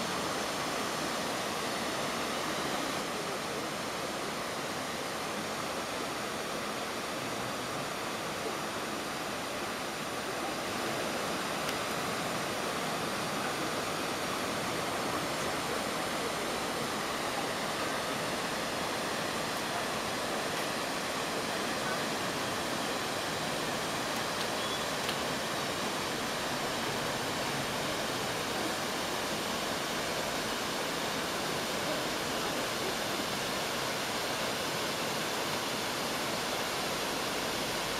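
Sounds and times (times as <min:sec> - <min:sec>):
waterfall roaring: 0:00.0 - 0:37.9.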